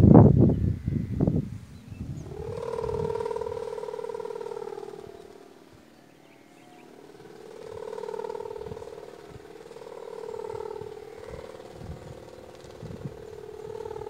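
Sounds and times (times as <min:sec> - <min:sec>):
kite hummer buzzing: 0:00.0 - 0:14.0.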